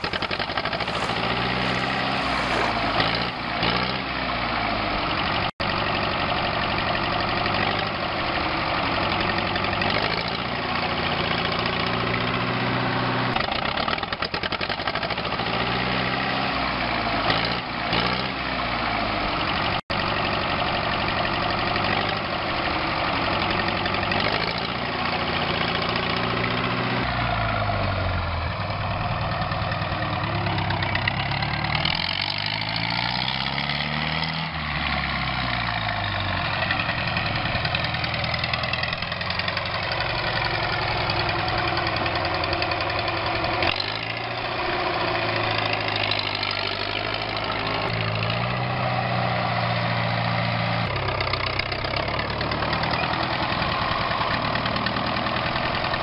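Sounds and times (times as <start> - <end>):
tractor engine running: 0.0 - 15.9, 16.8 - 56.0.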